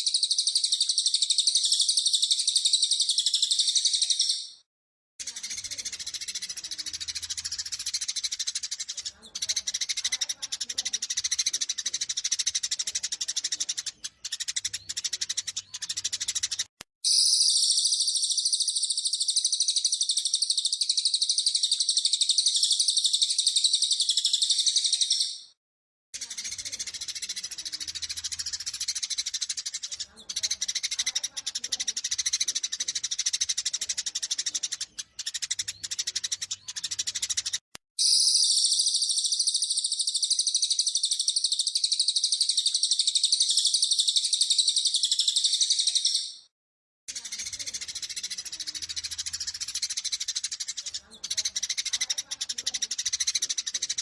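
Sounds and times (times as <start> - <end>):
shrill bird trilling: 0.0 - 4.6, 5.3 - 25.6, 26.2 - 46.5
sparrows chirping excitedly: 0.0 - 25.6, 26.2 - 46.5, 47.1 - 54.0.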